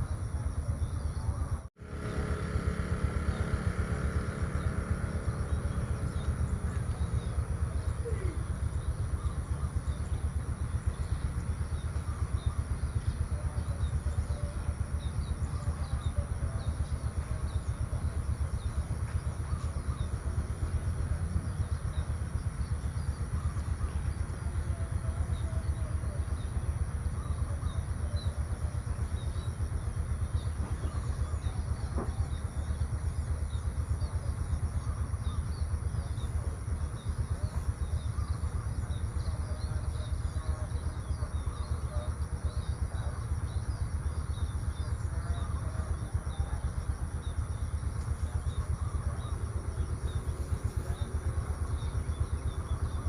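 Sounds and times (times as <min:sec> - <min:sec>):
high insect drone: 0:00.0 - 0:53.0
small birds chirping: 0:00.0 - 0:53.0.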